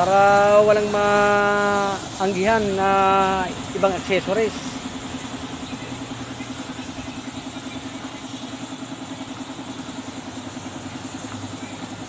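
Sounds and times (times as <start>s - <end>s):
small motor running: 0.0s - 12.0s
steady hiss: 0.0s - 12.0s.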